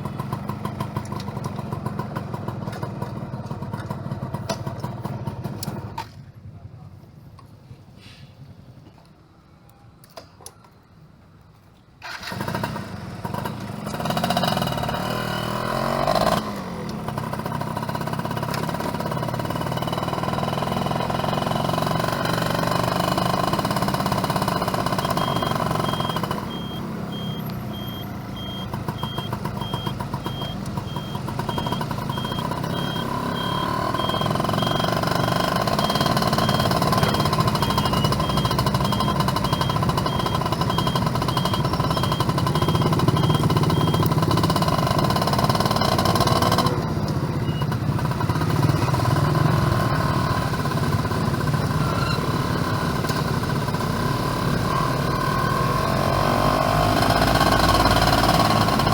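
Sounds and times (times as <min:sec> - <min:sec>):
two-stroke motorcycle engine revving: 0:00.0 - 0:06.0, 0:12.0 - 0:58.9.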